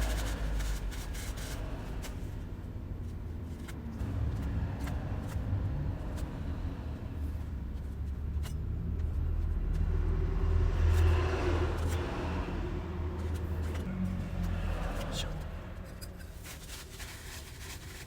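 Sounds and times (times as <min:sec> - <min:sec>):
motor vehicle rumble: 0:00.0 - 0:18.0.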